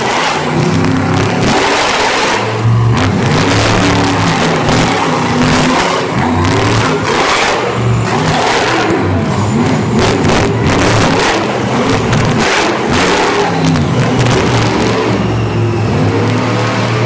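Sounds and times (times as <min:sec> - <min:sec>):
truck engines revving loudly: 0:00.0 - 0:17.0.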